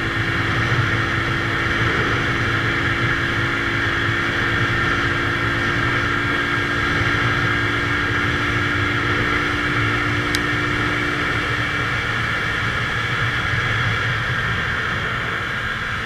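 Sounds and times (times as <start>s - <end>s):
motorcycle engine running at speed: 0.0s - 16.0s
rush of wind noise: 0.0s - 16.0s.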